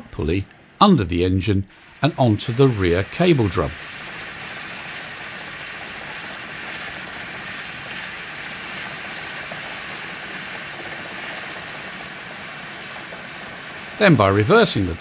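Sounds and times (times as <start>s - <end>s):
steel cable hissing over pulley: 1.7s - 15.0s.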